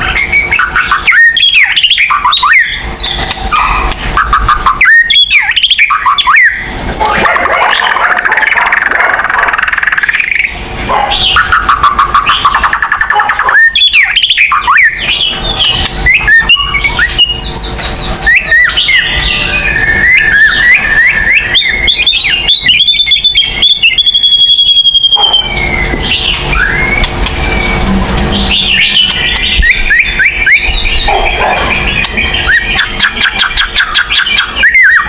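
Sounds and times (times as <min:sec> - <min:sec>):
bird singing whistles: 0:00.0 - 0:06.6, 0:11.2 - 0:27.8, 0:28.5 - 0:35.0.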